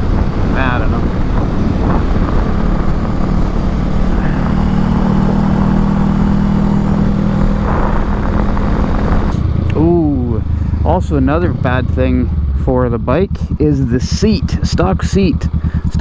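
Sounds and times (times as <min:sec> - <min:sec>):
wind on microphone: 0:00.0 - 0:13.7
motorcycle engine hum: 0:00.0 - 0:16.0.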